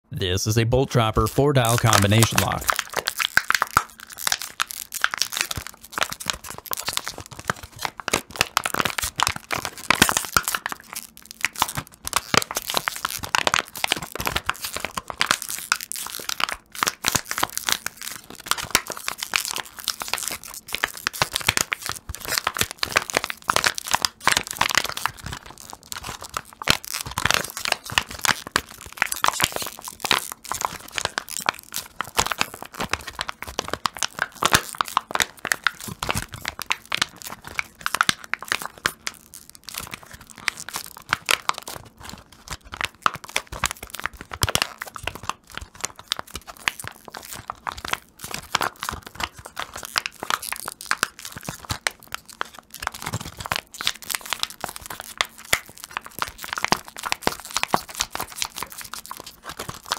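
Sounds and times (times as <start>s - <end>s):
plastic bag crinkling: 2.6s - 59.9s.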